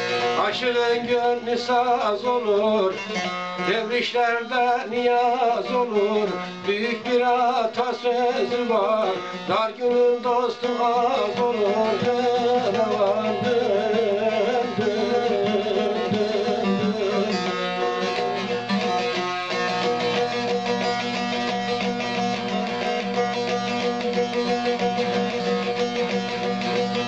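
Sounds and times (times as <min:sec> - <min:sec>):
plucked lute melody over drone: 0:00.0 - 0:27.0.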